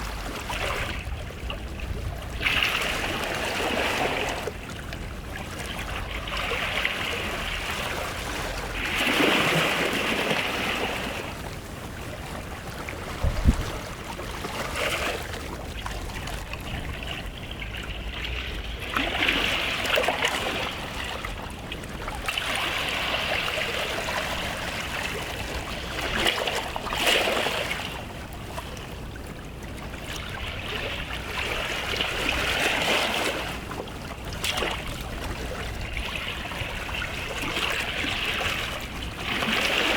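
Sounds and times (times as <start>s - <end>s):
waves washing on shore: 0.0s - 39.9s.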